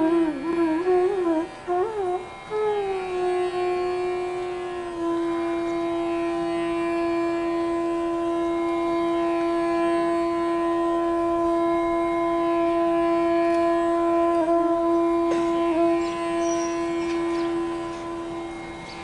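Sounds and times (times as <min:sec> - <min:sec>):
long wind instrument note: 0:00.0 - 0:19.0.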